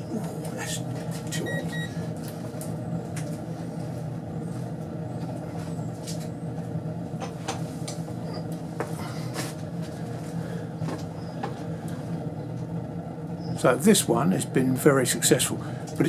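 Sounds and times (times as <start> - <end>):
stove burning with low rumble: 0.0 - 16.0.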